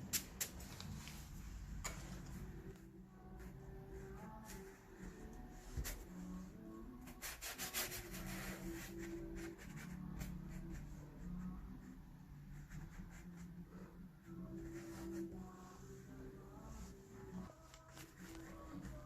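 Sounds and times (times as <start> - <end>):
faint background music: 0.0 - 19.0
paintbrush strokes on paper: 0.6 - 19.0.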